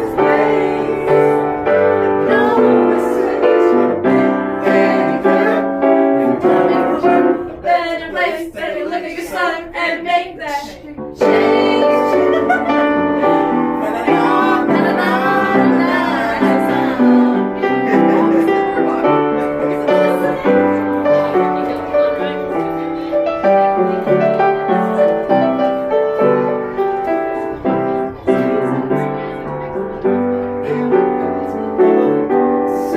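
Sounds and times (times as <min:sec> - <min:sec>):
person singing: 0:00.0 - 0:22.0, 0:23.8 - 0:32.9
piano: 0:00.0 - 0:32.9.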